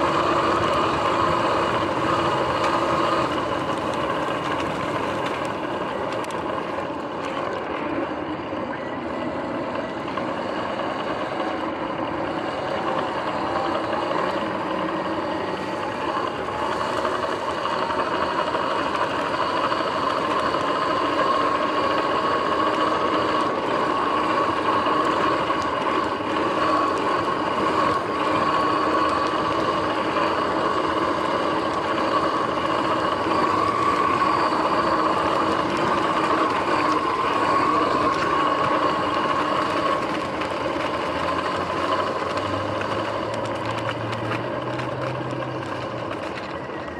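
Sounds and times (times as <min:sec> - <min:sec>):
electric motorbike drivetrain whine: 0:00.0 - 0:46.9
tyre noise: 0:00.0 - 0:46.9.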